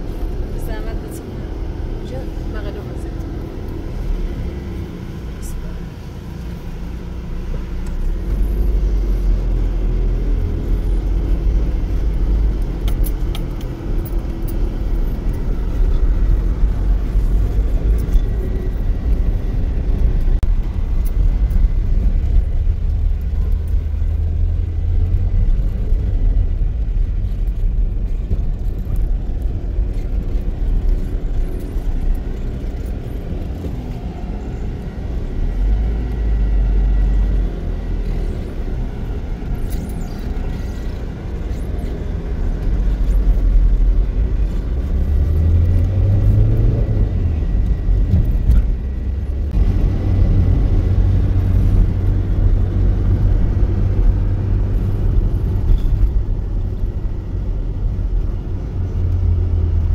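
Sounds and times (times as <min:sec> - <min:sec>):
vehicle rumble: 0:00.0 - 0:59.9.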